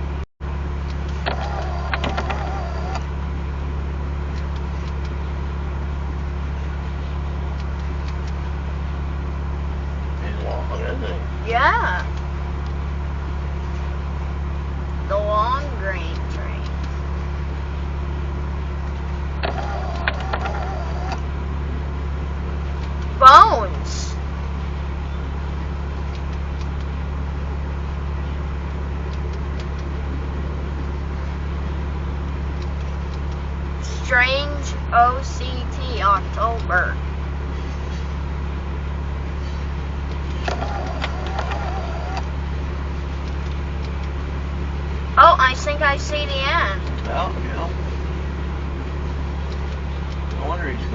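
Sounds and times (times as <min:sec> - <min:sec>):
freight train rumble: 0:00.0 - 0:50.9.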